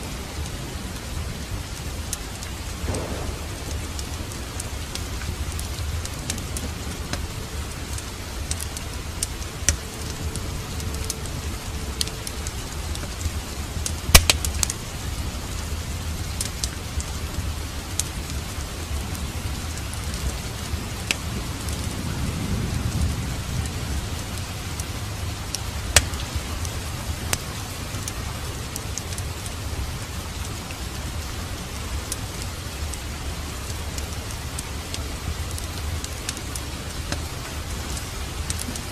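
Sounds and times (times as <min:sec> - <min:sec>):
log fire crackling and popping: 0:00.0 - 0:38.9
steady rain: 0:00.0 - 0:38.9
soft low rumble: 0:00.1 - 0:32.0.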